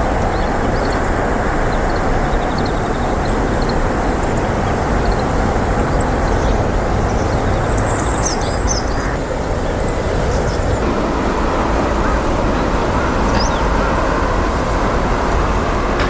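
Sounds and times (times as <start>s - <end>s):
small birds chirping: 0.0s - 10.9s, 11.6s - 15.5s
loud rushing noise: 0.0s - 16.0s.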